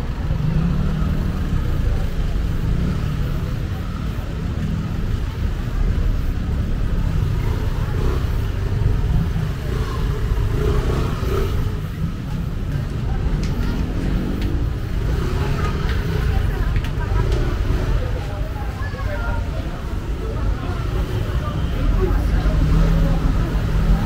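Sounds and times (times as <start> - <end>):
people's voices: 0.0 - 24.0
vehicle engines rumbling: 0.0 - 24.0.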